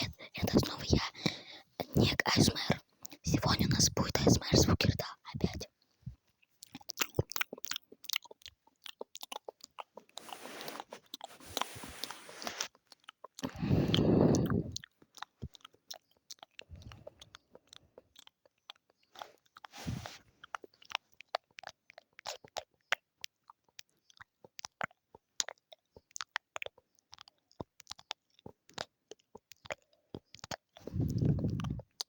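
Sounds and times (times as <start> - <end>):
wet mouth clicks and smacks: 0.0 - 5.7, 6.6 - 32.0.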